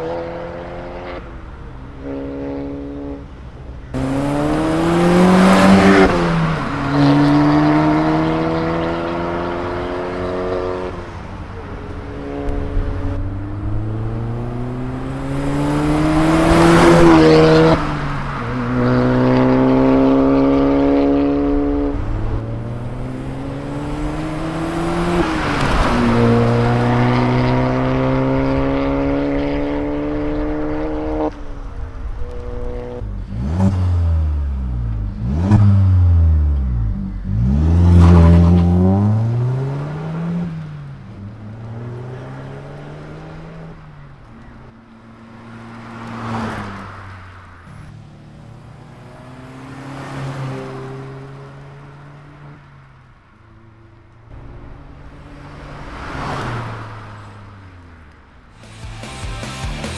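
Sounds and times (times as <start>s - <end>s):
car engine accelerating hard: 3.9s - 52.6s.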